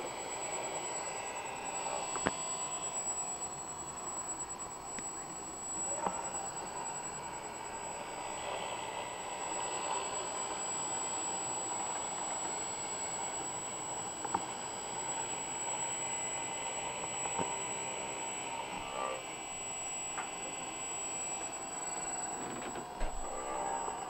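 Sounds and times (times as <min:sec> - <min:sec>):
machine motors whining: 0:00.0 - 0:24.0.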